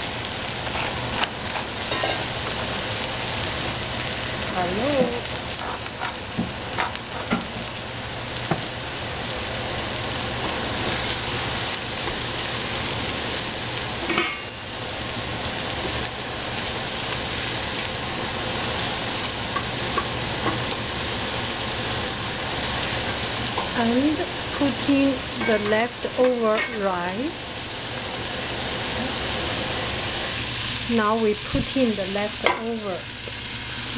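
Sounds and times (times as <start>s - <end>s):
food sizzling in a pan: 0.0s - 33.9s.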